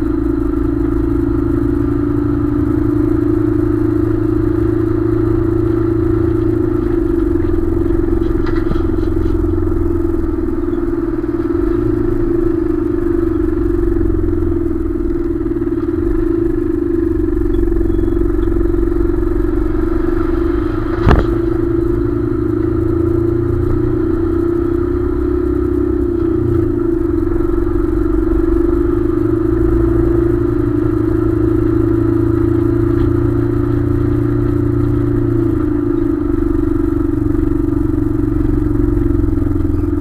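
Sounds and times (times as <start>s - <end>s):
truck engine droning: 0.0s - 40.0s
tyre road rumble: 0.0s - 40.0s.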